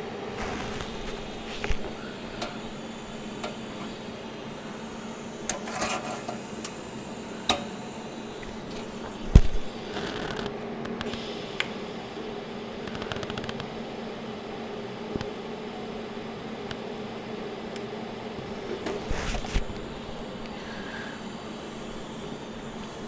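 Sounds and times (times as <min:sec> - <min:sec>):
machine hum: 0:00.0 - 0:14.8, 0:15.6 - 0:23.0.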